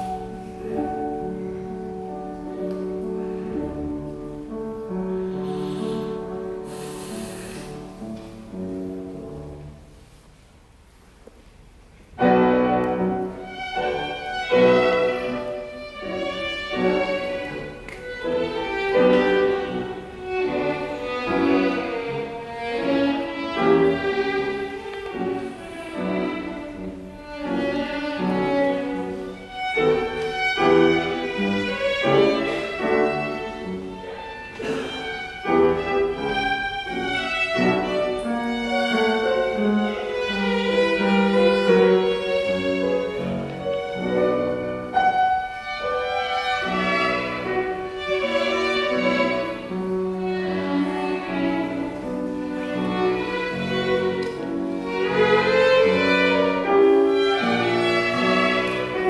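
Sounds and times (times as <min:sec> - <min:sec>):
string ensemble playing classical music: 0:00.0 - 0:59.0.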